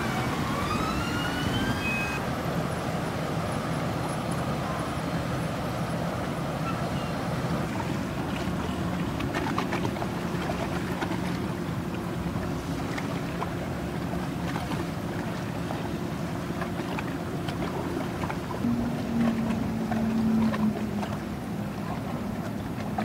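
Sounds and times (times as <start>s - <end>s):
boat engine droning: 0.0s - 23.0s
water noise: 0.0s - 23.0s
wind: 0.0s - 23.0s.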